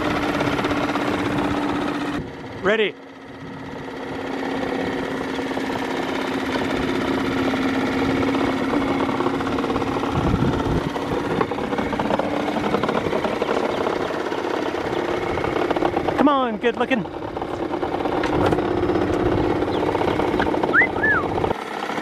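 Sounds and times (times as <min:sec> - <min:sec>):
outboard motor idling: 0:00.0 - 0:22.0.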